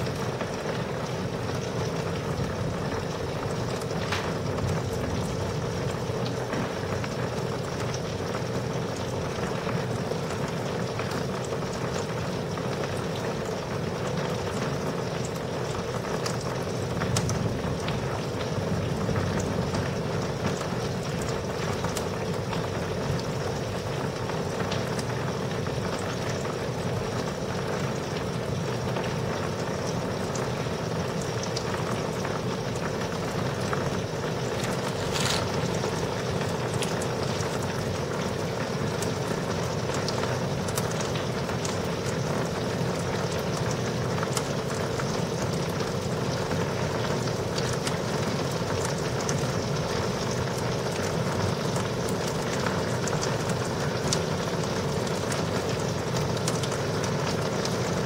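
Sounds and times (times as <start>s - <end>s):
heavy rain hissing: 0.0s - 58.0s
raindrop ticks: 0.0s - 58.0s.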